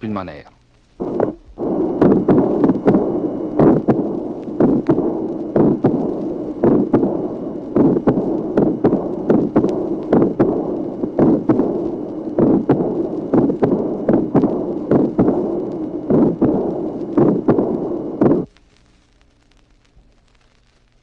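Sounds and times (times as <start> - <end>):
heartbeat with murmur: 0.9 - 18.5.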